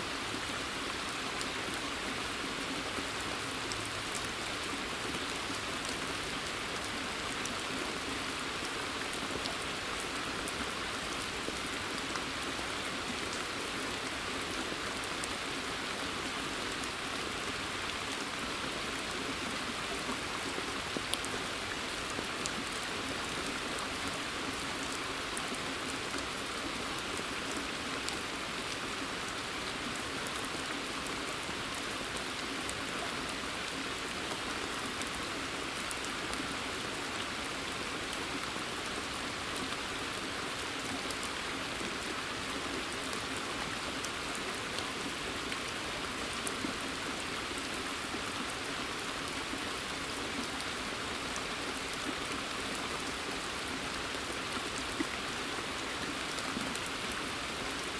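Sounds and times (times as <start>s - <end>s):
rain falling on water: 0.0s - 57.9s.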